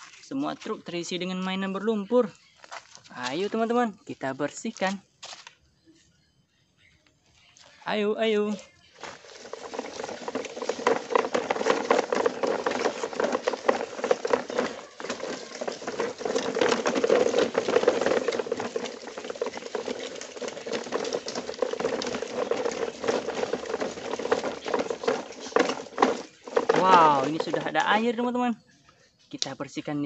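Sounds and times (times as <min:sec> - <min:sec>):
toy trucks crunching over gravel: 0:00.0 - 0:05.6, 0:07.6 - 0:28.3.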